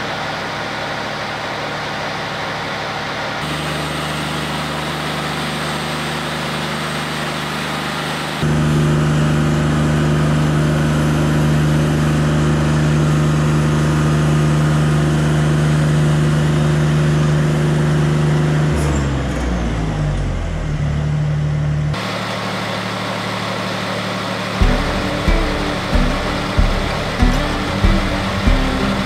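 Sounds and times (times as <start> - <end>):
sawmill engine running: 0.0 - 20.7, 22.0 - 29.0.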